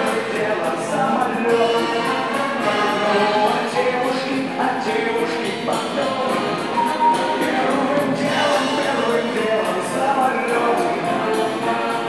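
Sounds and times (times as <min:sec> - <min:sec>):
big band playing: 0:00.0 - 0:12.0
man singing into a microphone: 0:00.0 - 0:12.0.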